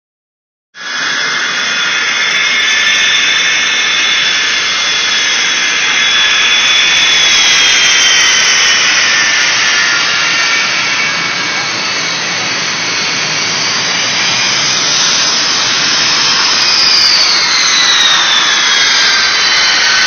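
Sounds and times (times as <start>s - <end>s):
jet turbine engine whine: 0.8s - 20.0s.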